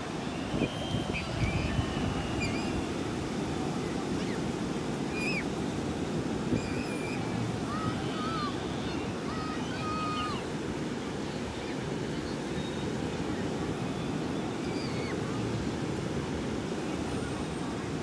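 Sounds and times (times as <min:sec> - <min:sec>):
low rushing wind or surf: 0:00.0 - 0:18.0.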